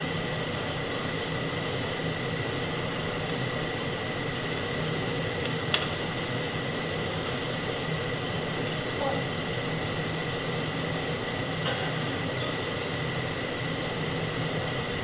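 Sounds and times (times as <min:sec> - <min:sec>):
welding arc hissing: 0:00.2 - 0:15.0.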